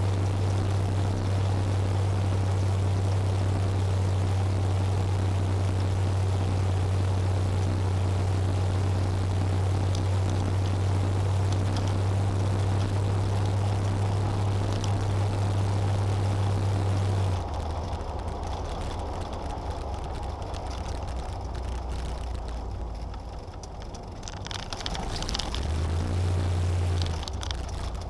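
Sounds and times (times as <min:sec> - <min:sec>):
car engine and tyre drone: 0:00.0 - 0:28.0.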